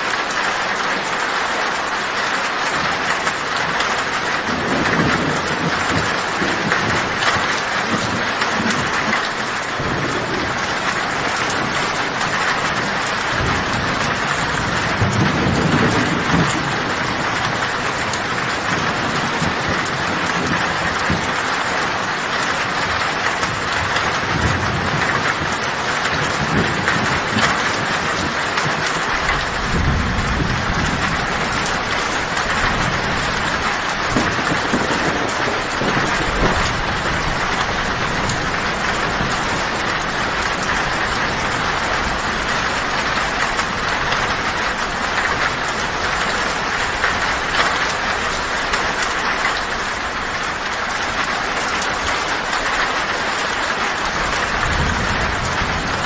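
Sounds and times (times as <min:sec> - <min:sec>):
heavy rain on a tin roof: 0:00.0 - 0:56.0
low thunder rumbling: 0:02.7 - 0:56.0.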